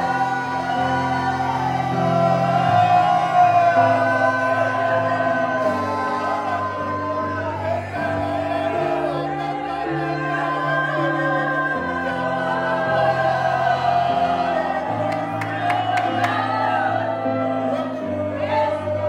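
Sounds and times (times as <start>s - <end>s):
congregation singing: 0.0s - 19.0s.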